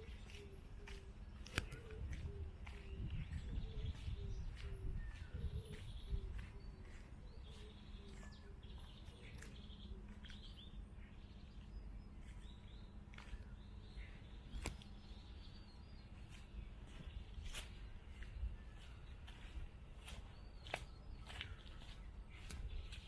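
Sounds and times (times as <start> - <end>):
low steady hum: 0.0 - 23.0
songbirds chirping: 0.0 - 23.0.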